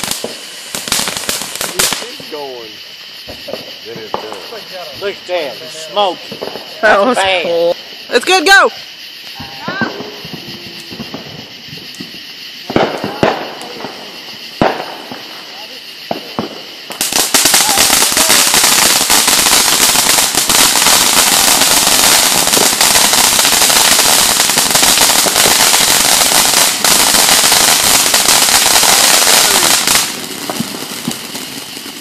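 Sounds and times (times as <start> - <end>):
firework pops: 0.0 - 2.3, 3.1 - 5.1, 6.2 - 6.9, 9.2 - 15.3, 16.0 - 32.0
fireworks hissing and crackling: 0.0 - 32.0.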